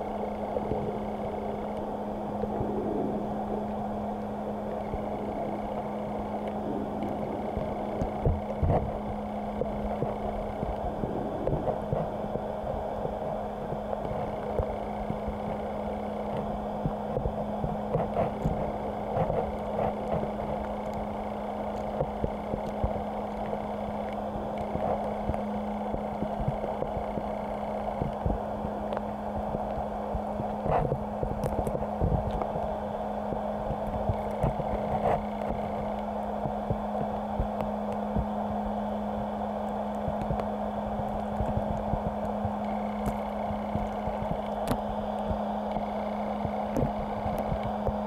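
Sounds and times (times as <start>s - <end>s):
constant low hum: 0.0s - 48.0s.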